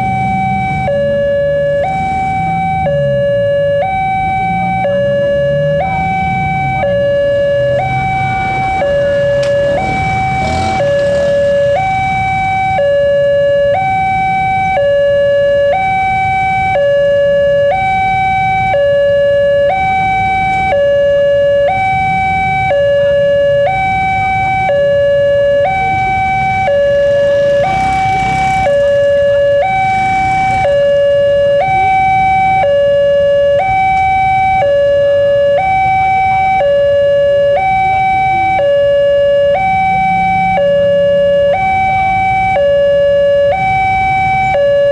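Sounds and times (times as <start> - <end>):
level crossing two-tone alarm: 0.0 - 44.9.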